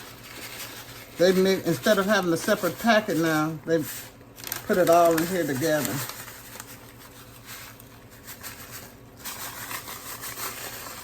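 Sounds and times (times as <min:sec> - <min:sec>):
dry stuffing mix rustling: 0:00.0 - 0:11.0.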